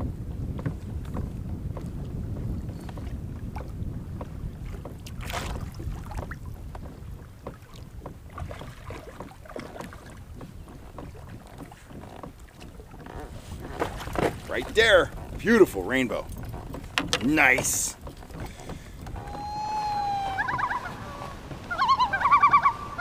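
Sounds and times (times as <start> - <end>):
water lapping against kayak: 0.0 - 23.0
wind buffeting microphone: 0.0 - 23.0.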